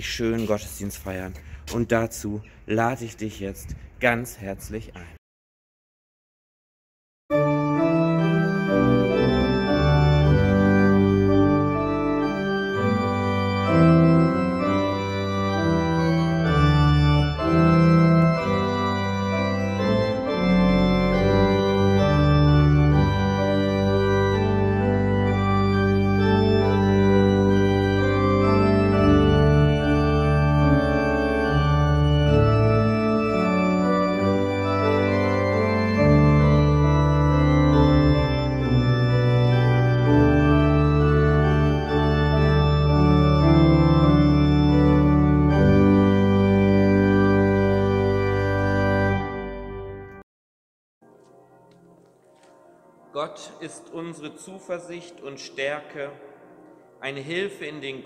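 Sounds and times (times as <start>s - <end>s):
pipe organ playing chords: 7.3s - 50.2s, 51.0s - 58.0s.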